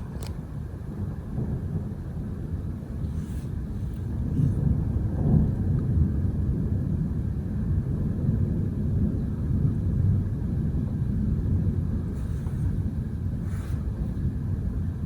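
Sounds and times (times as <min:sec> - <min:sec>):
low thunder rumble: 0:00.0 - 0:15.0.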